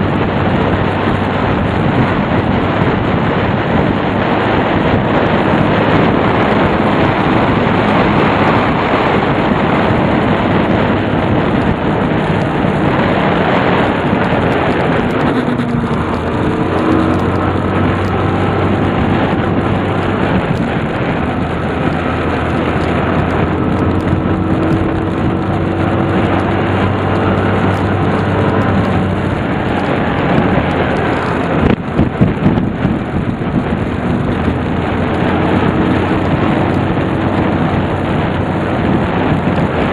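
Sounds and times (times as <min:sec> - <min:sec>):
engine running: 0:00.0 - 0:39.9
wind rush on microphone: 0:00.0 - 0:39.9.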